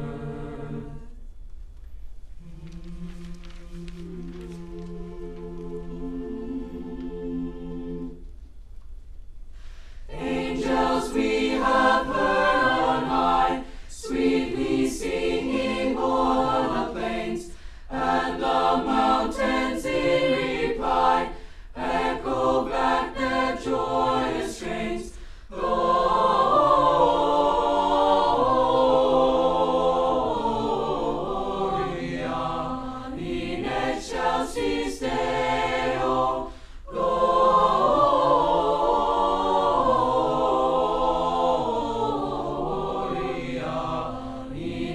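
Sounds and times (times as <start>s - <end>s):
choir singing: 0.0s - 1.2s, 2.4s - 8.3s, 10.1s - 44.9s.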